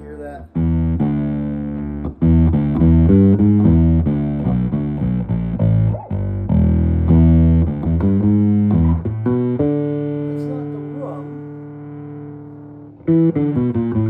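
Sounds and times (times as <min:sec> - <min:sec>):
electric bass plucked notes: 0:00.0 - 0:14.0.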